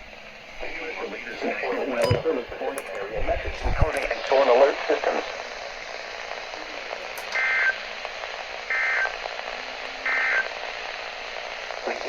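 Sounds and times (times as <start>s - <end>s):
receiver hiss: 0.0s - 12.0s.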